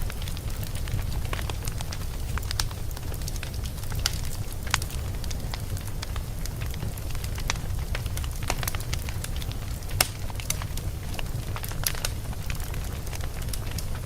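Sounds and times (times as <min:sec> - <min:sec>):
low rumble of flames: 0:00.0 - 0:14.0
wood fire crackling and popping: 0:00.0 - 0:14.0.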